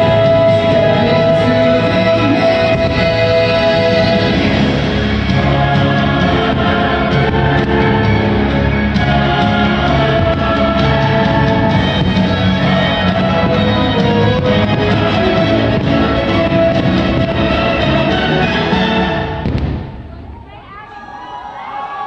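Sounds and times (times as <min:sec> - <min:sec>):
orchestral music with singing: 0:00.0 - 0:22.0.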